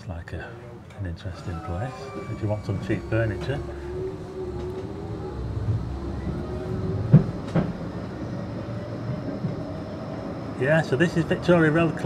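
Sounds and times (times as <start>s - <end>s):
tram rumble and motor hum: 0.0s - 12.0s.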